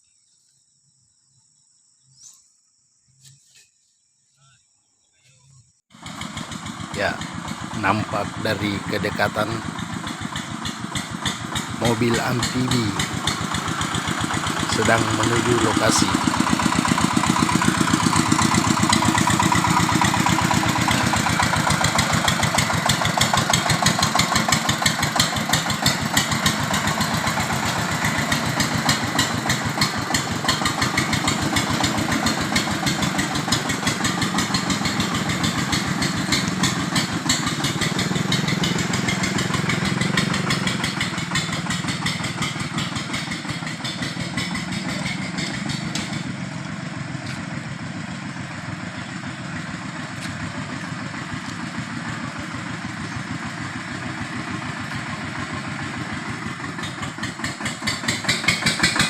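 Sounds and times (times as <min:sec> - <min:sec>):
vehicle engine running: 0:05.9 - 0:59.0.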